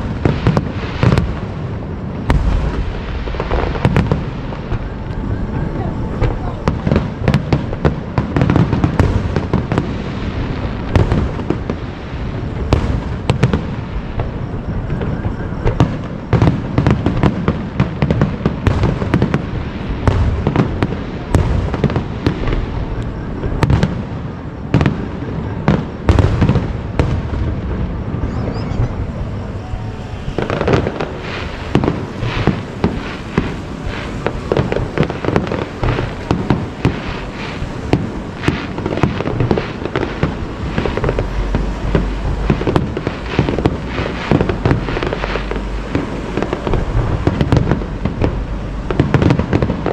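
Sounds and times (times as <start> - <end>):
fireworks bursts and bangs: 0.0 - 49.9.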